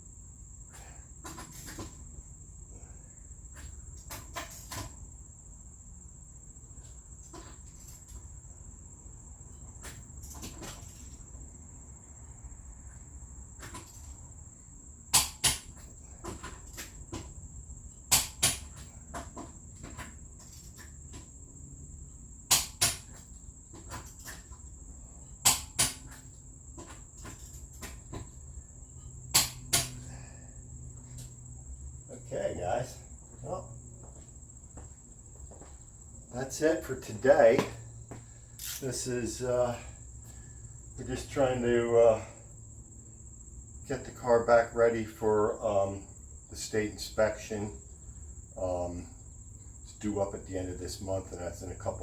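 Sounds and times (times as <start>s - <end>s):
high-pitched insect trill: 0.0s - 52.0s.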